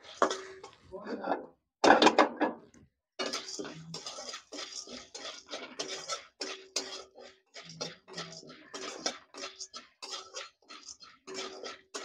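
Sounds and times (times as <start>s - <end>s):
metal spatula scraping pan: 0.0s - 2.4s, 3.2s - 12.0s.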